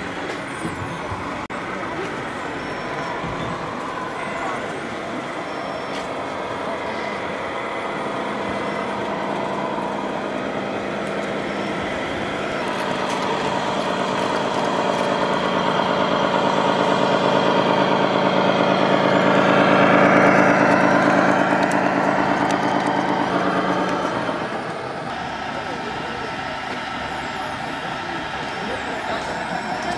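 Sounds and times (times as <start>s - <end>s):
model truck engine drone: 0.0s - 29.9s.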